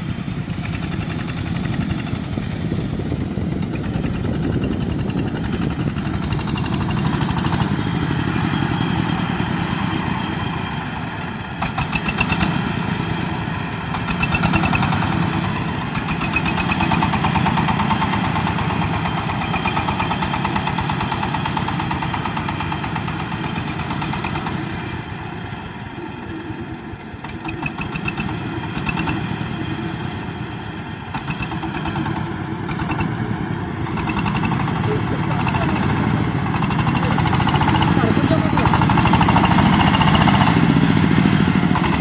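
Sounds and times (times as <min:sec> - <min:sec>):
machine engine droning: 0:00.0 - 0:42.0.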